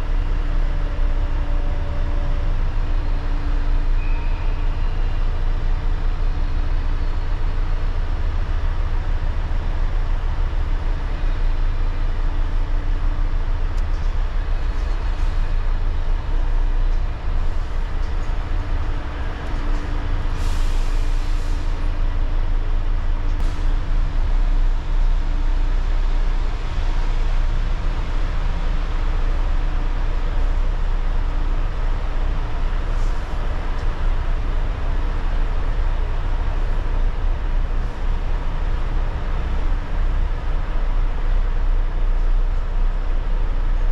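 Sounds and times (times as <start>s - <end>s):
truck diesel engine rumbling: 0.0s - 43.9s.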